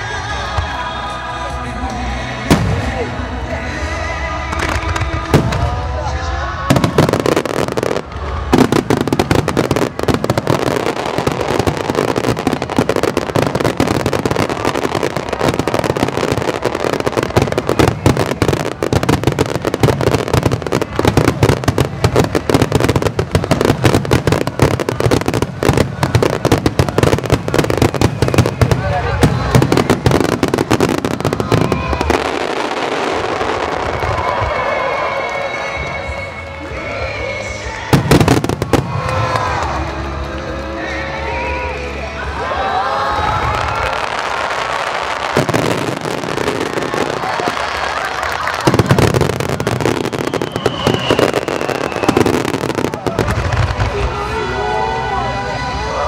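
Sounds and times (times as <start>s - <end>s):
music: 0.0s - 56.0s
fireworks bangs and crackling: 2.4s - 56.0s.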